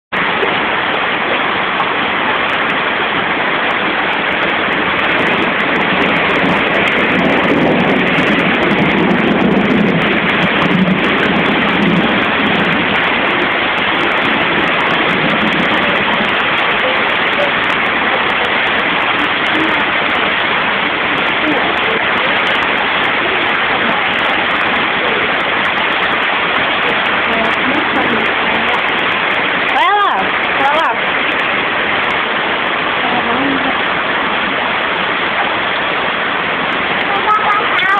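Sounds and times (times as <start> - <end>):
heavy hail falling: 0.2 - 37.9.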